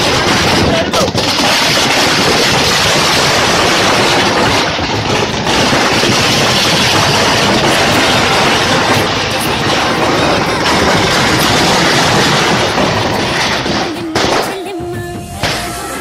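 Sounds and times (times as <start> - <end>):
fire roaring: 0.0 - 14.2
firecrackers crackling and popping: 0.0 - 16.0.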